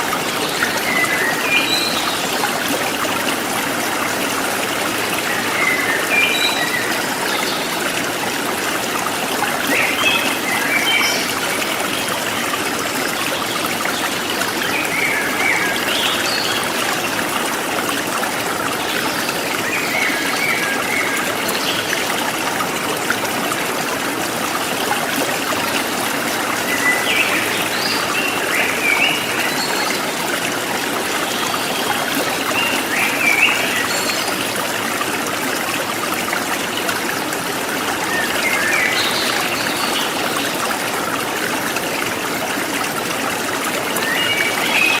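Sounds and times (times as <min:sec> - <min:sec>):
river water flowing: 0:00.0 - 0:45.0.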